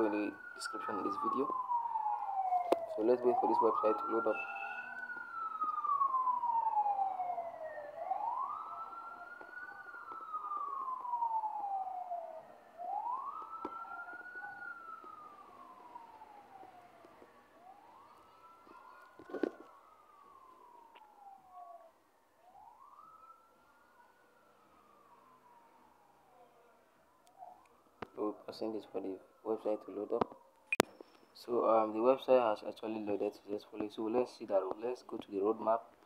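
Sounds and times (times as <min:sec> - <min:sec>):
emergency siren wailing: 0:00.0 - 0:30.5.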